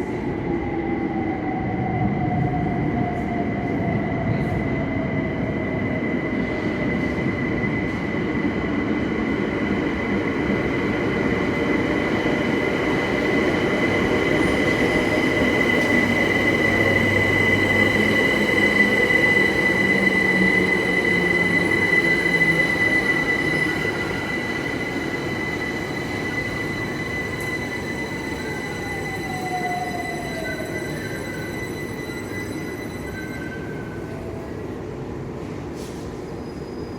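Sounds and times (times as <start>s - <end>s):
electric train rumbling: 0.0s - 36.9s.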